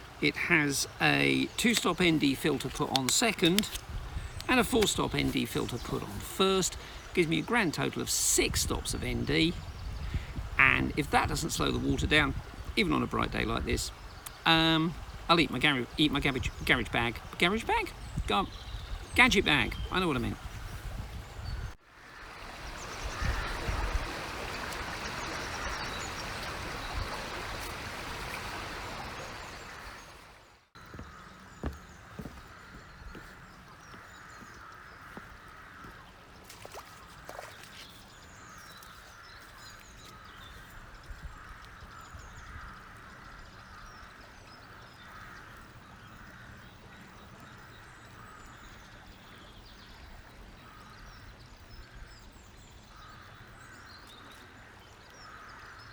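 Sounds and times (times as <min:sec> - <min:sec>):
river water flowing: 0:00.0 - 0:21.0, 0:21.8 - 0:51.8
small birds chirping: 0:00.0 - 0:30.2, 0:30.8 - 0:55.9.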